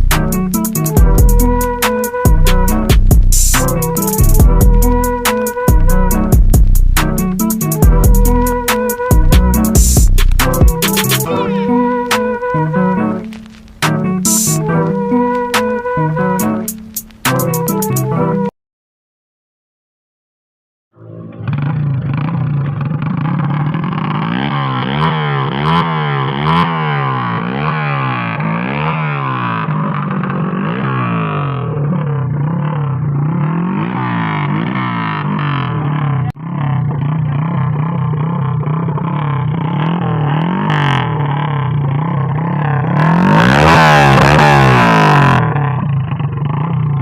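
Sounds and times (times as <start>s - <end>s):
motorcycle engine revving: 0.0s - 18.5s, 21.0s - 47.0s.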